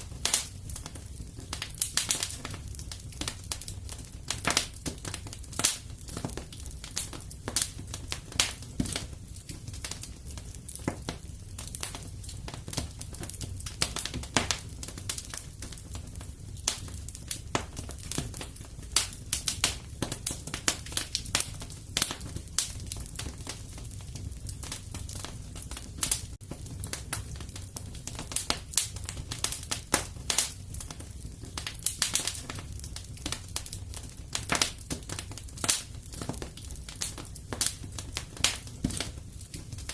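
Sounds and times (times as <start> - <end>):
fireplace wood fire crackling: 0.0 - 39.9.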